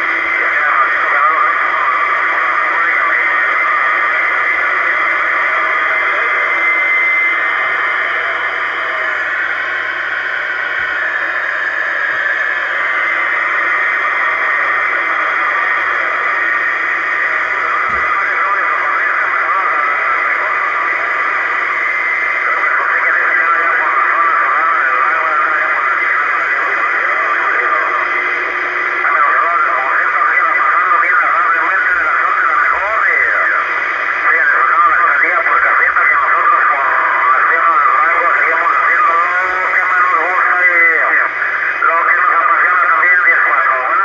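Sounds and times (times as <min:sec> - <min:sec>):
radio static hiss: 0:00.0 - 0:44.0.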